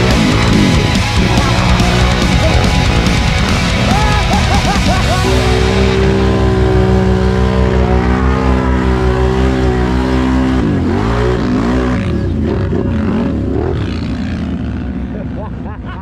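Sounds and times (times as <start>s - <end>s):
atv engine revving: 0.0s - 15.8s.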